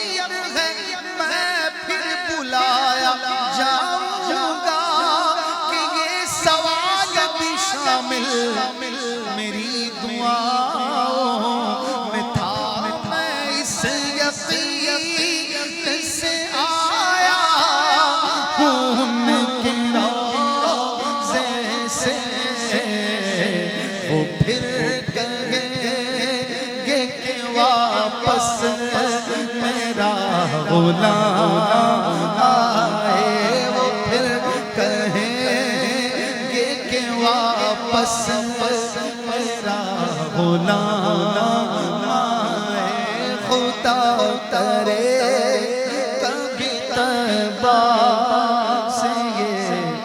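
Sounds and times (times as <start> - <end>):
man singing: 0.0 - 50.0.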